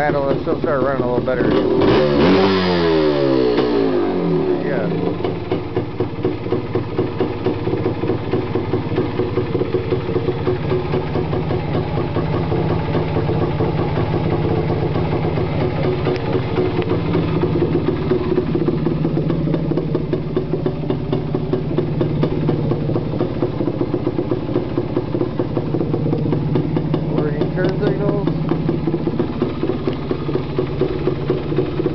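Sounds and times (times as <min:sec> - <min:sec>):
two-stroke engine idling: 0:00.0 - 0:31.9.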